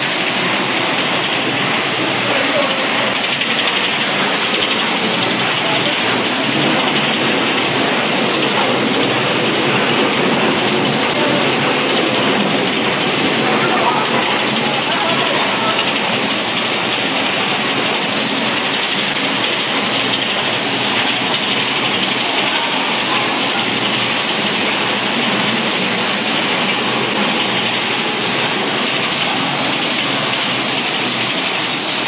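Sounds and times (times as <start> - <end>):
high-pitched machine whine: 0.0 - 32.0
production line machinery running: 0.0 - 32.0.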